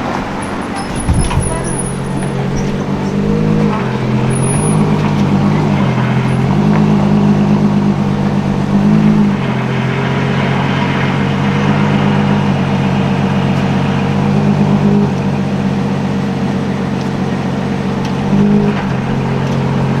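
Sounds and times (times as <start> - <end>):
sports car engine idling: 0.0 - 20.0.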